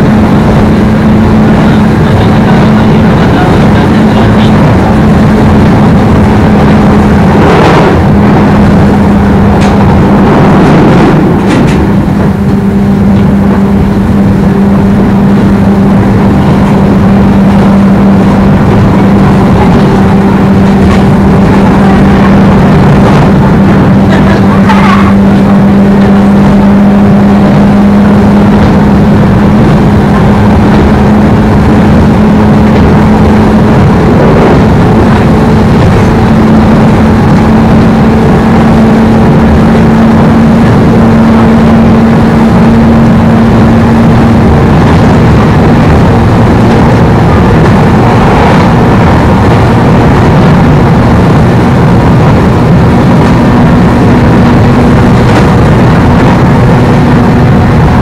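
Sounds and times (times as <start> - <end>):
train motor hum: 0.0 - 58.0
wheels rumbling on rails: 0.0 - 58.0.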